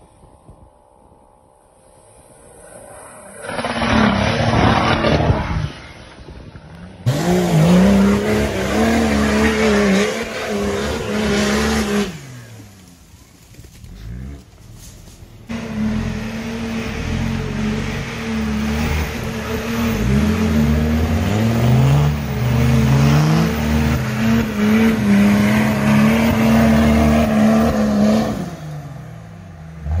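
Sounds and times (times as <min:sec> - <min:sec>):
diesel engine revving: 0:03.4 - 0:06.0, 0:07.0 - 0:13.1, 0:13.7 - 0:30.0.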